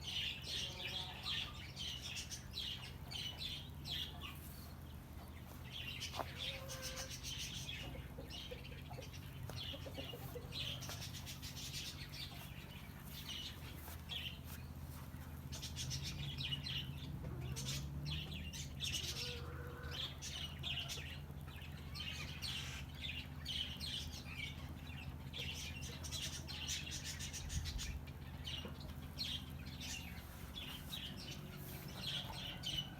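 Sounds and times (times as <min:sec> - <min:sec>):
steady low hum: 0:00.0 - 0:18.8, 0:21.0 - 0:32.9
small birds chirping: 0:00.0 - 0:32.9.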